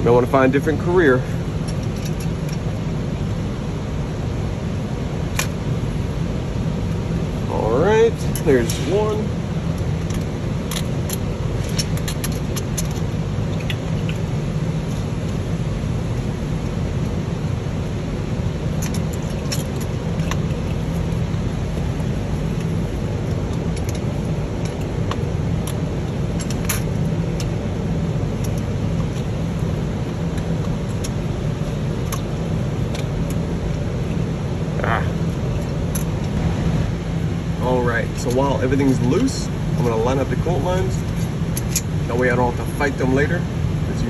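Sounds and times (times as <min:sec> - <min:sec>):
low machine rumble: 0:00.0 - 0:44.0.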